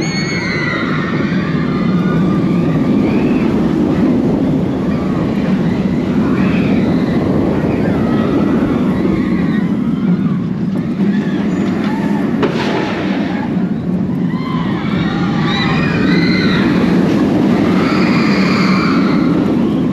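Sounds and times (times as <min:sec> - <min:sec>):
riders shouting and screaming: 0:00.0 - 0:19.9
roller coaster wind and wheel noise: 0:00.0 - 0:19.9.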